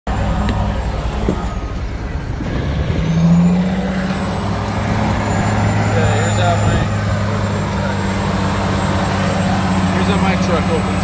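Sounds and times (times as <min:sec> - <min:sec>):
refuse truck engine hum: 0:00.1 - 0:11.0.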